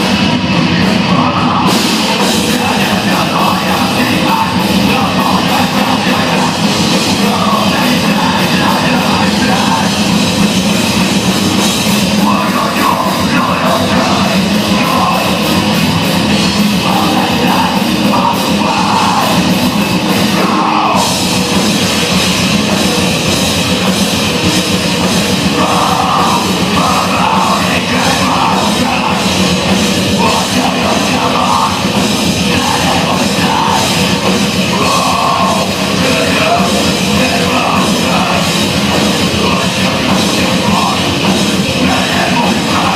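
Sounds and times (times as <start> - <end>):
live heavy rock band: 0.0 - 42.9.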